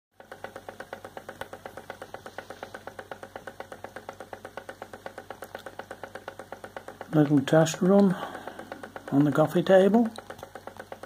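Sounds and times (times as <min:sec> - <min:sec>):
model engine ticking: 0:00.2 - 0:11.0.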